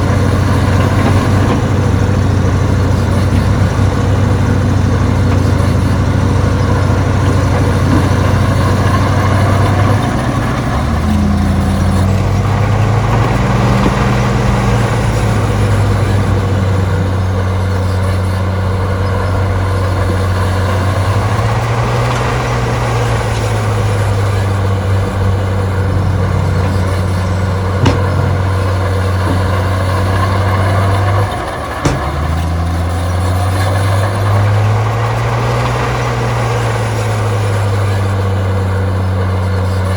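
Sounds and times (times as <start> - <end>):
heavy diesel engine drone: 0.0 - 39.9.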